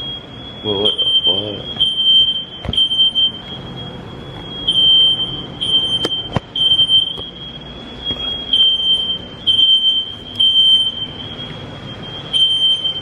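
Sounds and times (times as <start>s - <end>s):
smoke alarm beeping: 0.0s - 13.0s.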